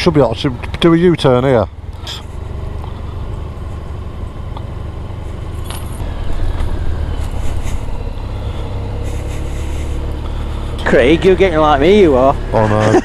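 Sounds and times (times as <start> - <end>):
motorcycle engine rumbling: 0.0 - 13.0
wind and road noise: 0.0 - 13.0.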